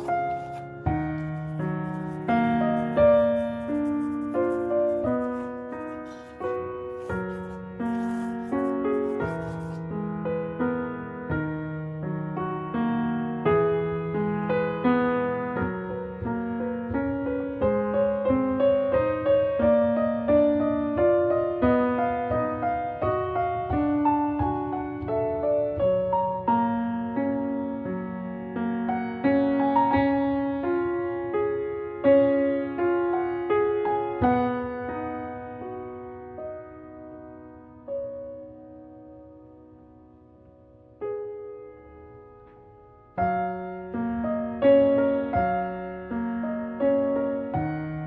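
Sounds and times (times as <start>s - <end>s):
slow gentle piano melody: 0.0s - 48.0s.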